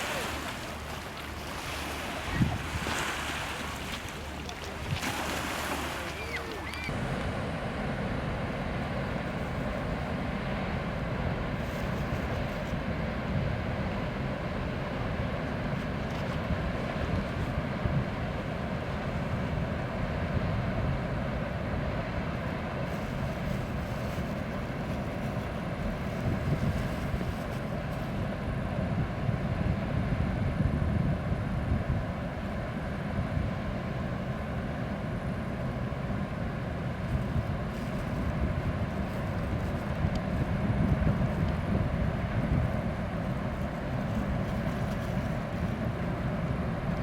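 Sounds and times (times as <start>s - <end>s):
wind buffeting microphone: 0.0s - 14.6s, 15.5s - 34.2s, 36.5s - 47.0s
ship engine rumble: 0.0s - 47.0s.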